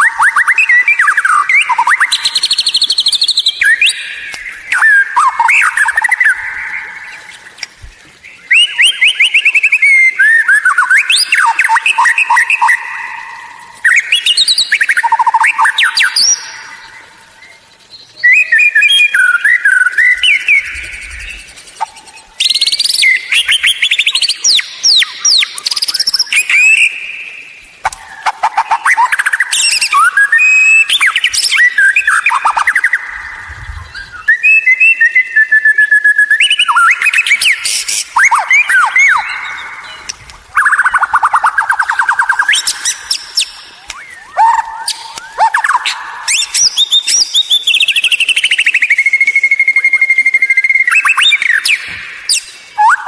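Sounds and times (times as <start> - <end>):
bird singing varied phrases: 0.0 - 53.0.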